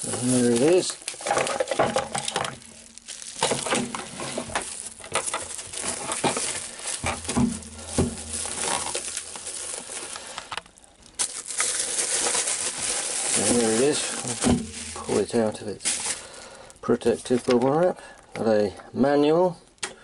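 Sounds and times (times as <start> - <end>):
bubble wrap crinkling: 0.0 - 17.9.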